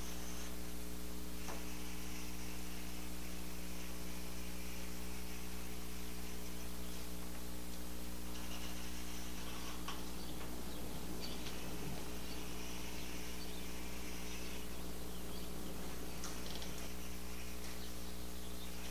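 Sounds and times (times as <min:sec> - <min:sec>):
electrical mains hum with hiss: 0:00.0 - 0:18.9.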